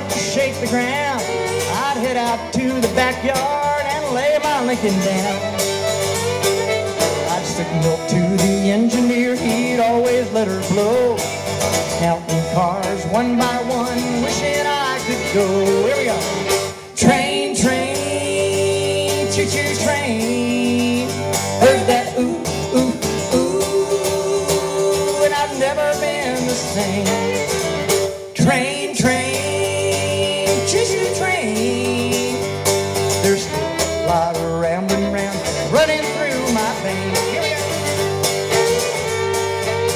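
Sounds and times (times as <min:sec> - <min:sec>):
man and woman singing: 0:00.0 - 0:05.5, 0:07.2 - 0:27.6, 0:28.3 - 0:32.6, 0:33.2 - 0:37.7
strummed acoustic guitar: 0:00.0 - 0:39.9.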